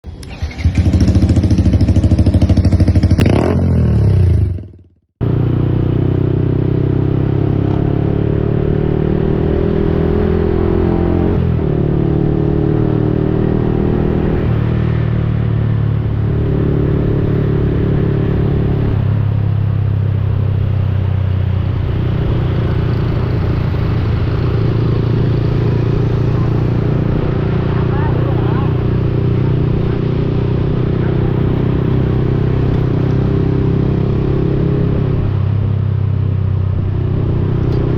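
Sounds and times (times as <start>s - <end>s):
motorcycle engine revving: 0.0s - 37.9s
motorcycle engine running under way: 0.0s - 37.9s.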